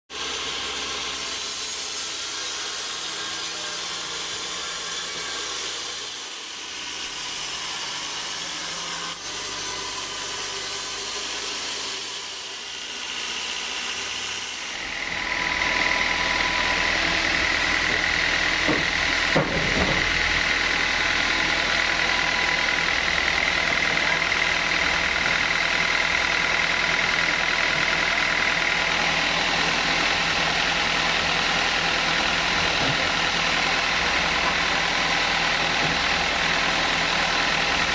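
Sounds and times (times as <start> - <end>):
high saw whine: 0.1 - 37.9
sawmill saw drone: 0.1 - 37.9.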